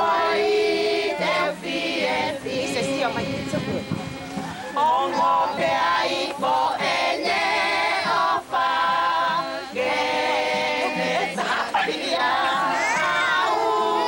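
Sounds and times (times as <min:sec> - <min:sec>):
children singing unaccompanied: 0:00.0 - 0:14.0.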